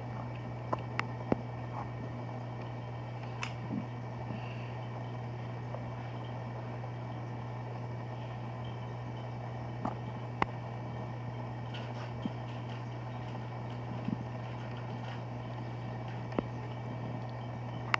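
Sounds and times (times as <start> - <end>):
aquarium equipment hum: 0.0 - 17.9.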